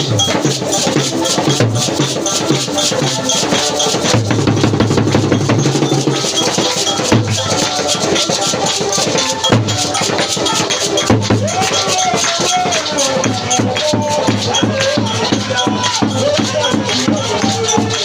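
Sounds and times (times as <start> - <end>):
drums and shakers beat: 0.0 - 18.0
gliding melody line: 0.1 - 18.0.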